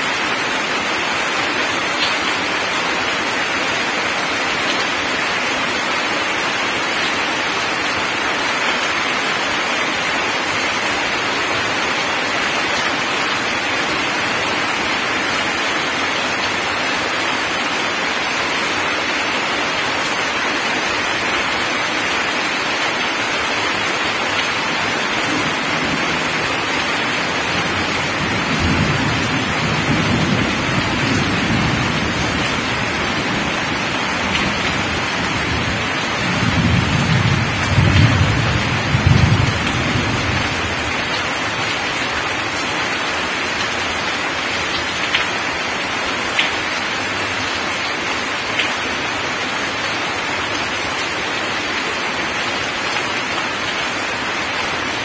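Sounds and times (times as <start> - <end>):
heavy rain on gravel: 0.0 - 55.0.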